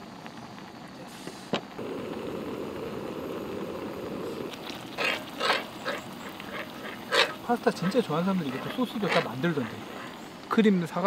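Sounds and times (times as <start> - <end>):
sauce crackling on gas stove: 0.0 - 10.6.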